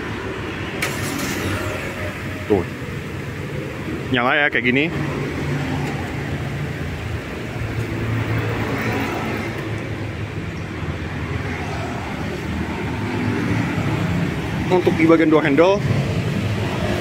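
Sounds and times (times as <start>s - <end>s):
car engine idling: 0.0s - 16.5s.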